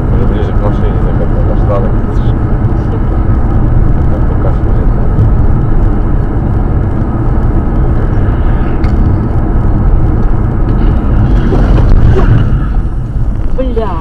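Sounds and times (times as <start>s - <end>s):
car engine running: 0.0s - 14.0s
road rumble: 0.0s - 14.0s.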